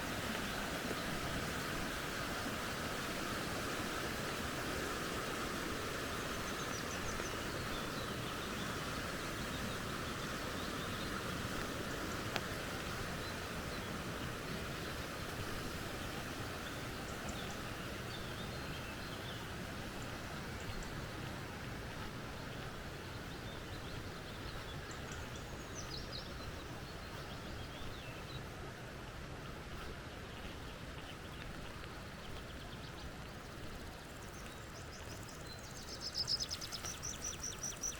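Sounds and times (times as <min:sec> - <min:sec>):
creek flowing: 0:00.0 - 0:37.9.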